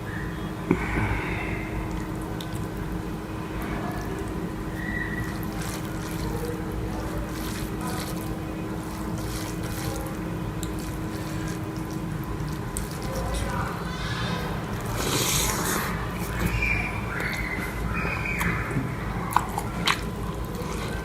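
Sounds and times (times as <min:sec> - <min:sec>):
steady low hum: 0:00.0 - 0:21.0
wet clicks and smacks of eating: 0:01.9 - 0:03.0, 0:03.6 - 0:13.7, 0:14.8 - 0:21.0.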